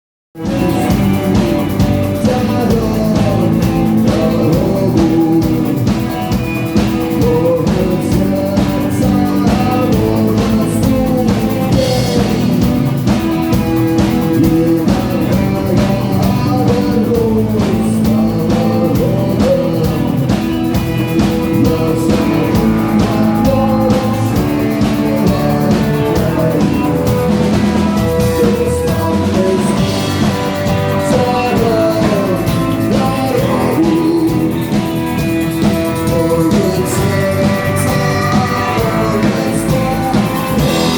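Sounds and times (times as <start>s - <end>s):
rock music: 0.3s - 40.9s.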